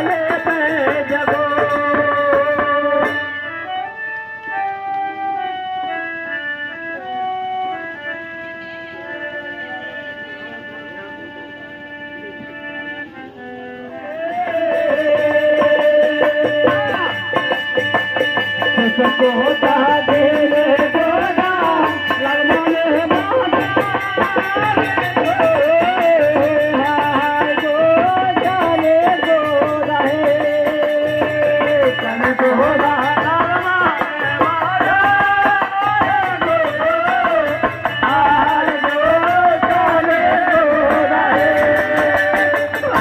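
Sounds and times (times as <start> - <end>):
folk music: 0.0 - 43.0.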